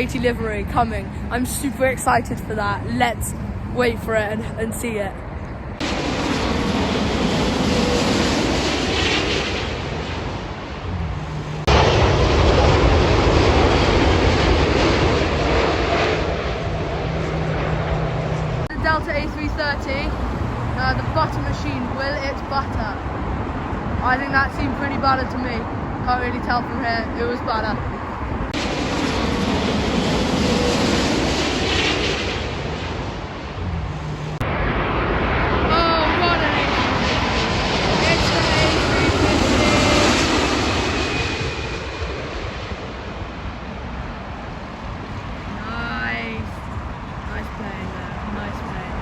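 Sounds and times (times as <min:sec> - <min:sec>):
jet airliner passing overhead: 0:00.0 - 0:49.0.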